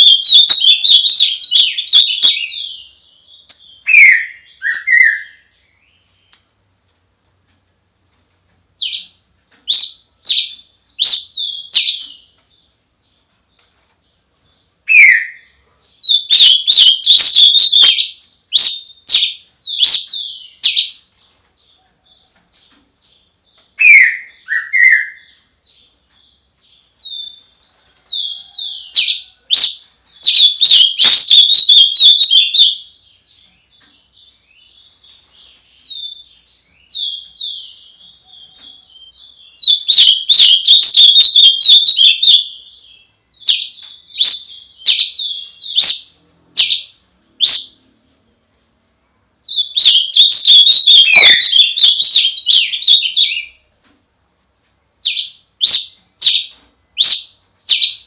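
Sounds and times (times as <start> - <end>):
songbird chirping and whistling: 0.0 - 6.6, 8.8 - 13.2, 14.5 - 47.9, 49.2 - 53.6, 55.0 - 58.0.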